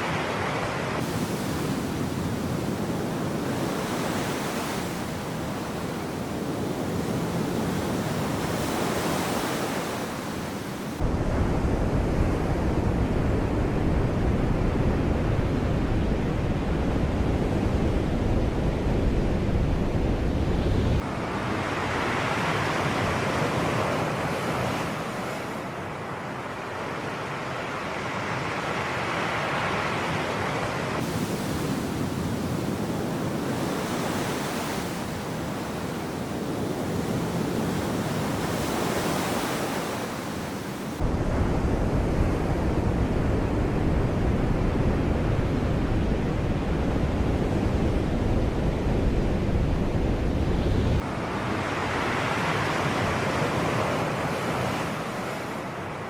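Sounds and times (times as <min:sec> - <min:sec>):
wind rumble on microphone: 0:00.0 - 0:25.4, 0:30.1 - 0:56.0
sea waves washing in: 0:00.0 - 0:56.0.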